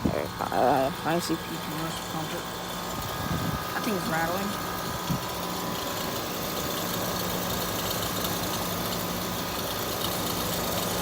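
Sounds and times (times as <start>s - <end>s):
air conditioner humming: 0.0s - 11.0s
air conditioner rattle: 0.0s - 11.0s.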